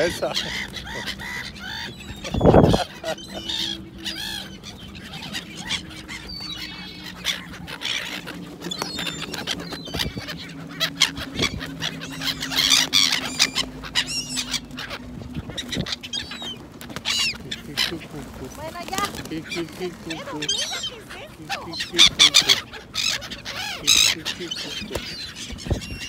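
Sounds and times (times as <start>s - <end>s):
gulls calling: 0.0s - 26.0s
steady low hum: 0.0s - 26.0s.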